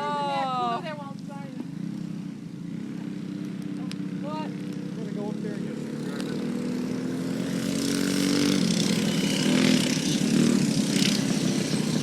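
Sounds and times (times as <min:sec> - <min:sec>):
mini bike engines racing: 0:00.0 - 0:12.0.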